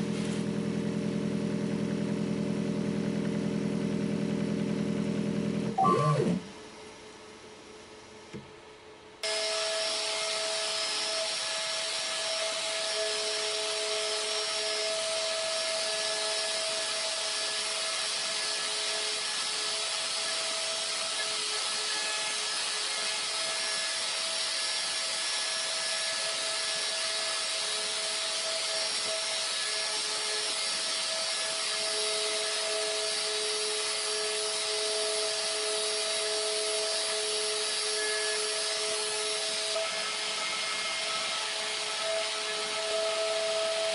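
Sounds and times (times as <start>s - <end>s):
router milling wood: 3.2s - 6.5s, 9.2s - 43.9s.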